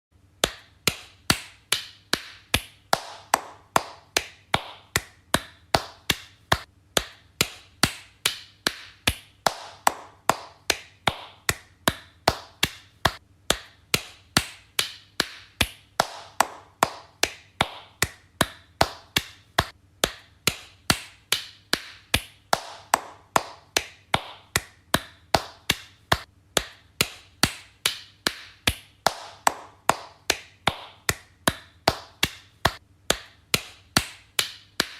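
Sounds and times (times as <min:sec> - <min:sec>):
hand claps: 0:00.3 - 0:34.9.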